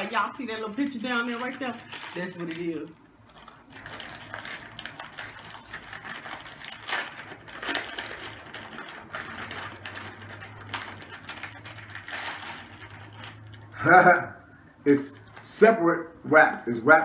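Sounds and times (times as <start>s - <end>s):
plastic wrapper crinkling: 0.0s - 13.8s, 14.9s - 15.8s.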